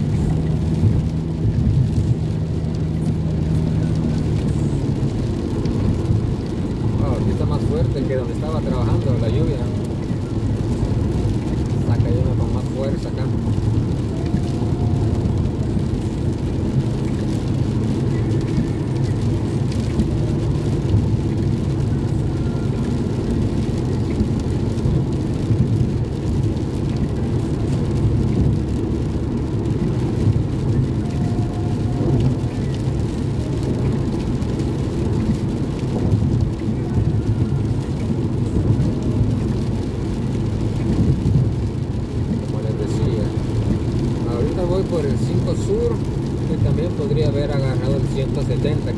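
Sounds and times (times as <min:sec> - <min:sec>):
car road rumble: 0:00.0 - 0:48.9
tyre noise on wet road: 0:00.0 - 0:48.9.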